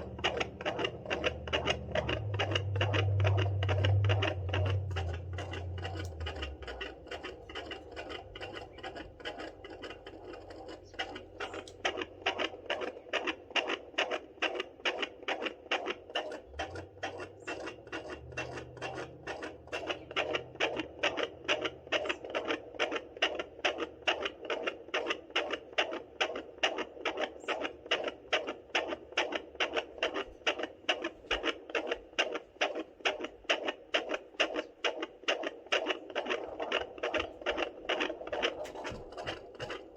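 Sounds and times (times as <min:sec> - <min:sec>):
fetal heartbeat whooshing pulses: 0:00.0 - 0:39.9.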